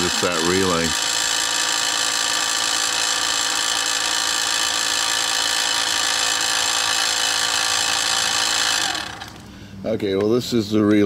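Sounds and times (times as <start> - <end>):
air compressor motor whine: 0.0 - 9.8.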